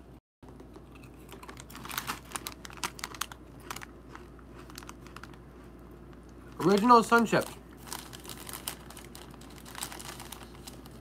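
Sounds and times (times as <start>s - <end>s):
chips crunching: 0.5s - 5.8s, 6.4s - 11.0s
chip bag crinkling: 0.7s - 5.7s, 6.4s - 11.0s.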